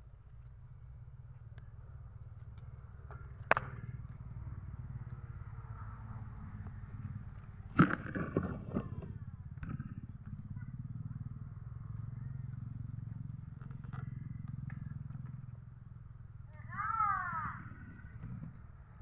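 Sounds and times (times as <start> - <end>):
small engine humming: 0.0 - 19.0.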